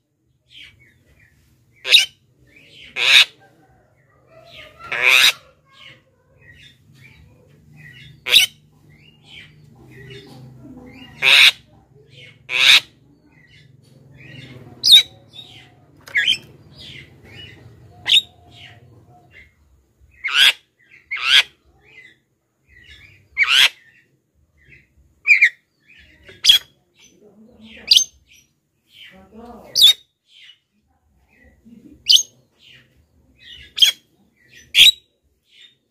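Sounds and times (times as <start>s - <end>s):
harsh bird calls: 0.5s - 30.6s, 31.5s - 35.9s
soft bird chattering: 0.5s - 35.8s.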